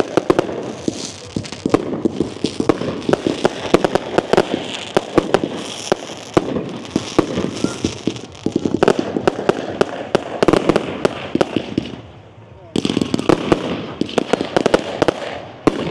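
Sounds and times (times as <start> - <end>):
fireworks banging and crackling: 0.0 - 15.9.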